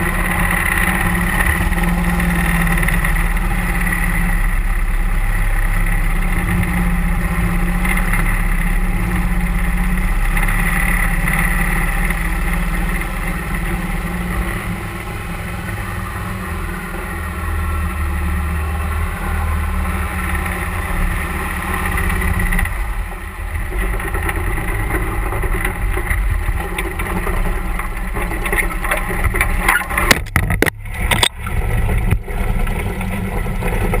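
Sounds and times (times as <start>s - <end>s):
boat motor running: 0.0s - 34.0s.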